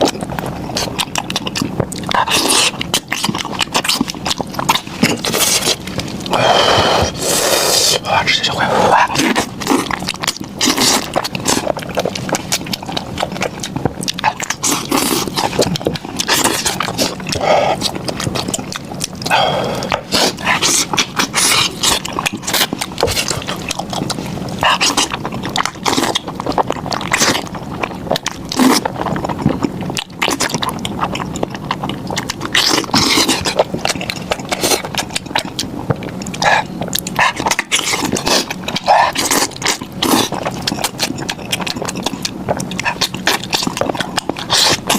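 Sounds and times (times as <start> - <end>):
wet chewing and lip-smacking: 0.0 - 44.9.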